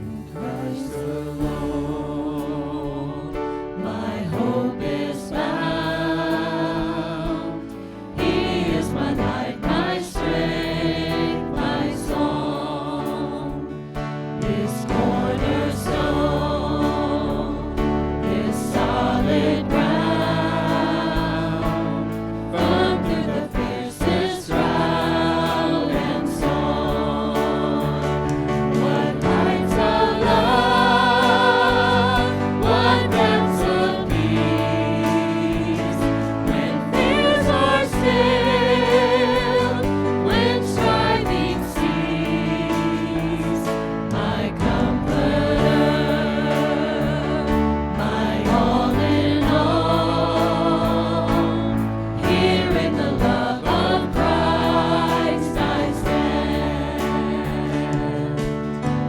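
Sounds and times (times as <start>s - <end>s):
instrumental accompaniment: 0.0s - 59.0s
voices singing religious song: 0.0s - 59.0s.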